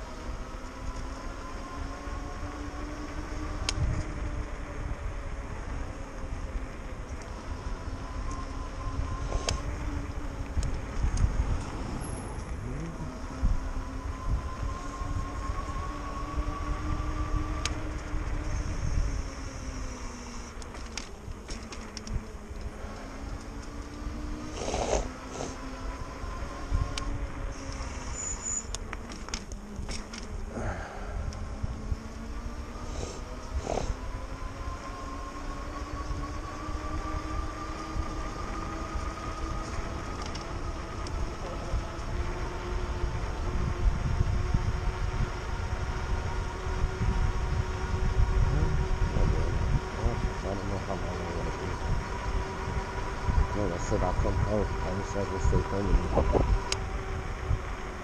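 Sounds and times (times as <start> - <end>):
electric bike motor whining: 0.0 - 58.0
wind rumbling on microphone: 0.0 - 58.0.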